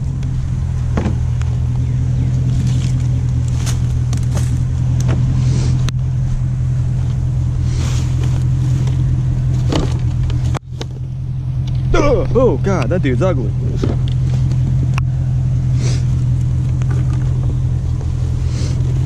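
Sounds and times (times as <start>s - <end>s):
truck engine humming: 0.0s - 19.0s.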